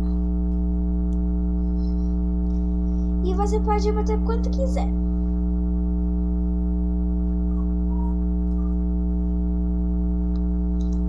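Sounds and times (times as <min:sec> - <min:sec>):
mains hum: 0:00.0 - 0:11.0.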